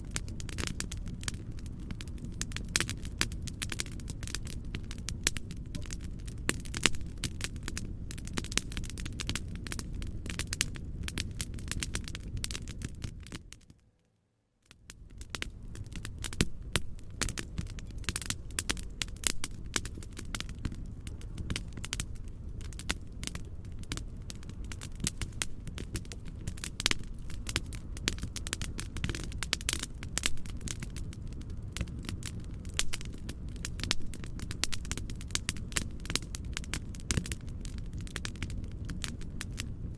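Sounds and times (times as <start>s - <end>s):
fireplace crackling: 0.0s - 39.9s.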